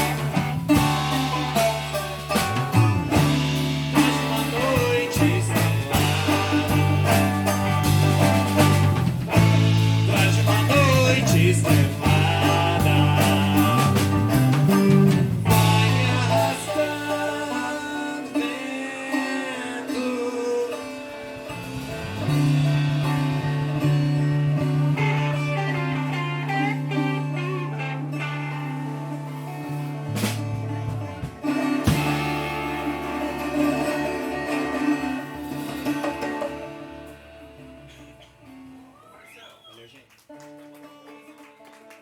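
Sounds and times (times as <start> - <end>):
electric bass: 0.0 - 18.4, 19.3 - 39.0
plucked guitar: 0.0 - 39.3
drums: 0.0 - 42.0.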